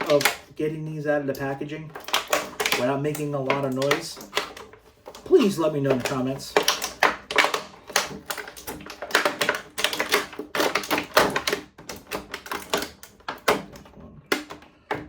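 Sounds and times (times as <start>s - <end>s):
plastic tray crackling: 0.0s - 15.0s.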